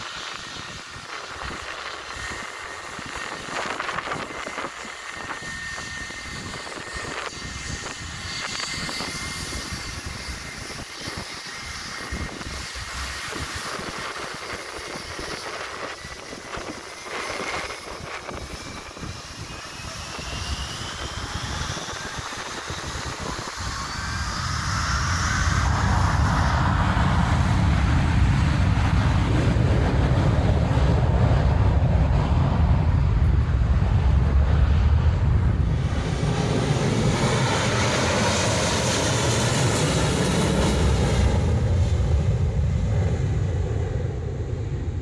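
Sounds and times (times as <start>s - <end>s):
jet engines whining: 0.0s - 45.0s
loud low jet rumble: 0.0s - 45.0s.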